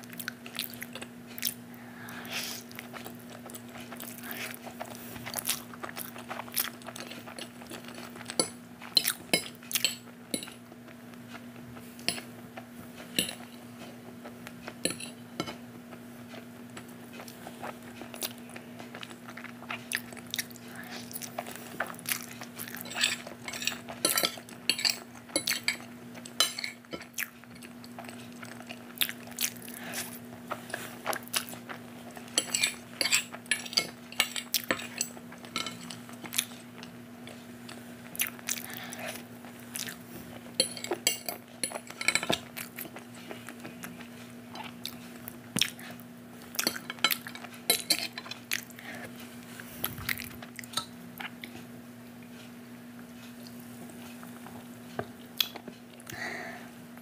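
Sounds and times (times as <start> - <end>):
soft chewing: 0.0 - 57.0.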